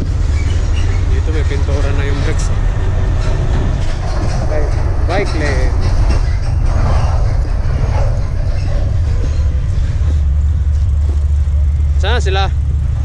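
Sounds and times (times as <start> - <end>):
wind buffeting microphone: 0.0 - 12.0
street traffic: 0.0 - 13.0.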